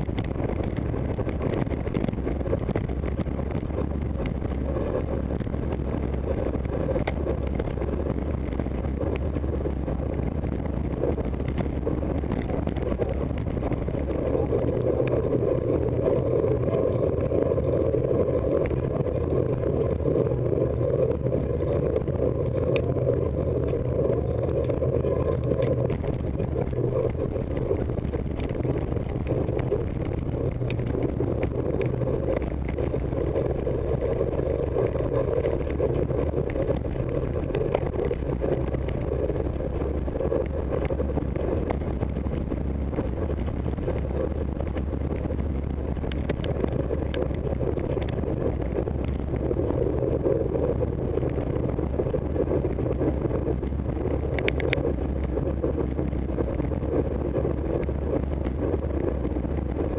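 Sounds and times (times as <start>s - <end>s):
muffled wind rush: 0.0s - 59.9s
tyre rumble: 0.0s - 59.9s.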